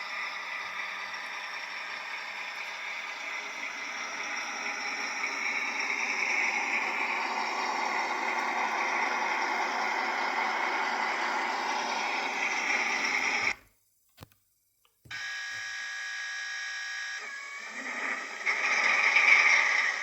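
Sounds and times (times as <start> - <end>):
model locomotive motor hum: 0.0 - 13.6, 15.1 - 20.0.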